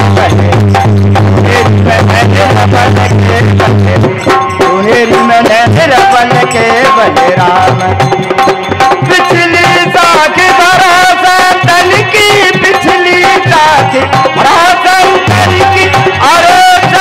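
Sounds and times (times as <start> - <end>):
dholak drum rhythm: 0.0 - 17.0
harmonium melody: 0.0 - 17.0.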